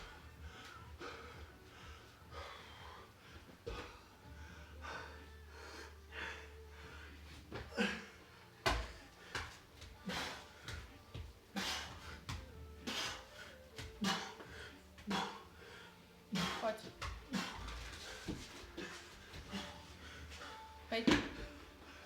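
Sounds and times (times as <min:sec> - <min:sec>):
person breathing hard: 0:00.0 - 0:20.9.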